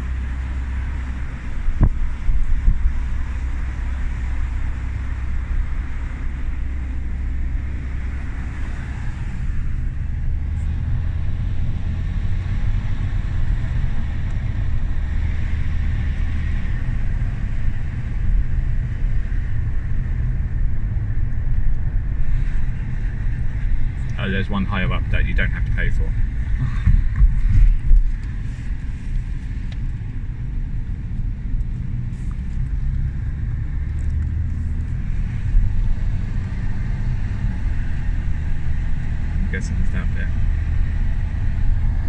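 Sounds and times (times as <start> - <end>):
car driving rumble: 0.0 - 42.0.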